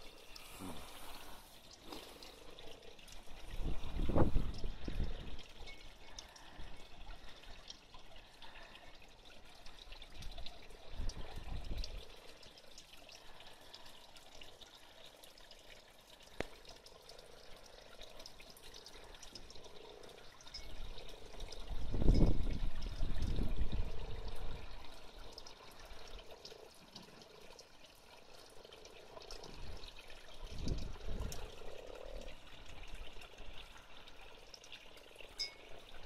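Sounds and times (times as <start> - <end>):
water trickling and dripping: 0.0 - 36.0.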